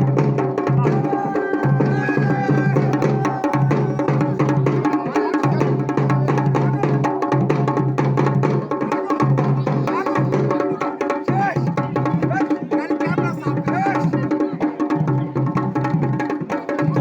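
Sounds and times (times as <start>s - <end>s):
drums in fast rhythm: 0.0s - 17.0s.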